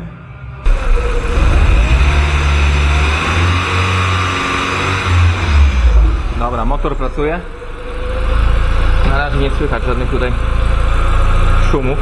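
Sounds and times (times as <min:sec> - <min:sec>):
car engine running: 0:00.6 - 0:12.0.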